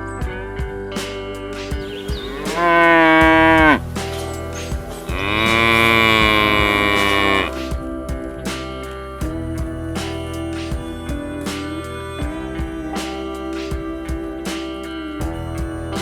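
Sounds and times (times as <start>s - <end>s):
strummed guitar music: 0.0s - 16.0s.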